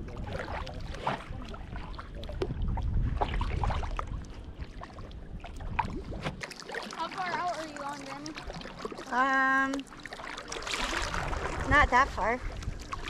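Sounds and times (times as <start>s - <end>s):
steady low rumble: 0.0s - 13.0s
paddle splashing in water: 0.1s - 13.0s.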